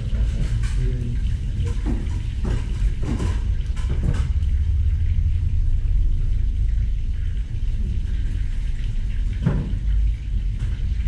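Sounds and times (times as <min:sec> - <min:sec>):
low kitchen rumble: 0:00.0 - 0:11.0.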